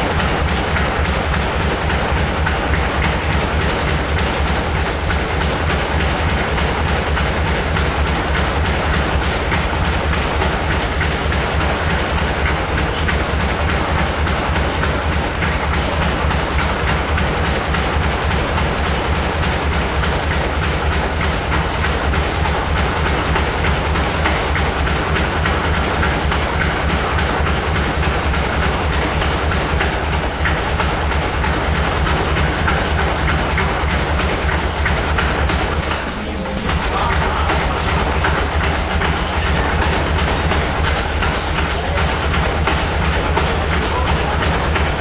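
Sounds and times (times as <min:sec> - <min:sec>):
speed bag rattling: 0:00.0 - 0:45.0.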